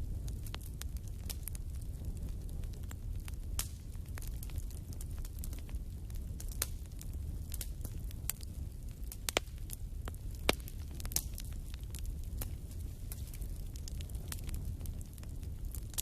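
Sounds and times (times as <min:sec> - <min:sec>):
low rumble of fire: 0:00.0 - 0:16.0
wood fire crackling and popping: 0:00.0 - 0:16.0.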